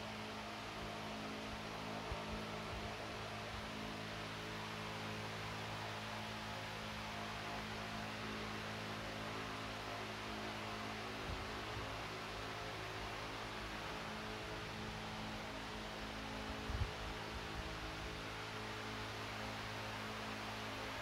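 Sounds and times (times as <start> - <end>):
constant hiss: 0.0 - 21.0
steady low hum: 0.0 - 21.0.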